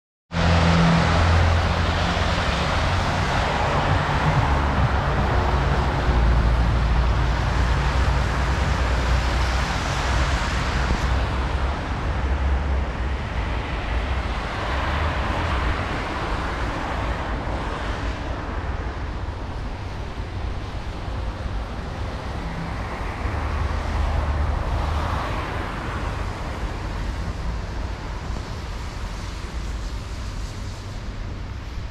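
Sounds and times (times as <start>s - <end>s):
low traffic rumble: 0.3s - 31.9s
tyres hissing on wet road: 0.4s - 31.9s.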